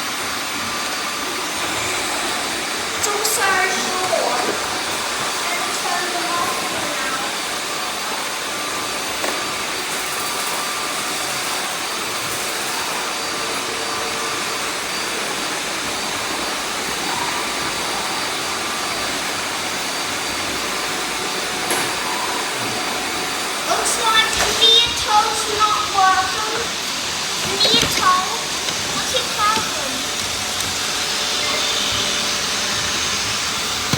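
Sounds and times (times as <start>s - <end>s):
robot vacuum cleaners whirring: 0.0s - 33.9s.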